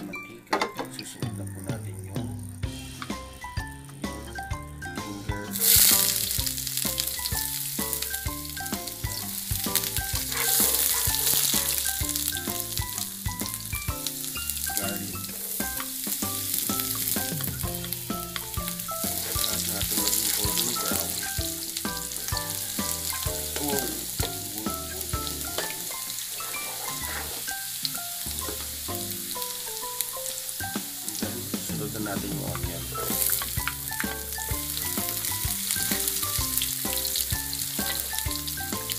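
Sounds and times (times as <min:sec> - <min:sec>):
plucked music over bass beat: 0:01.0 - 0:25.8, 0:28.2 - 0:29.3, 0:30.7 - 0:38.9
garlic sizzling in hot oil: 0:05.5 - 0:38.9.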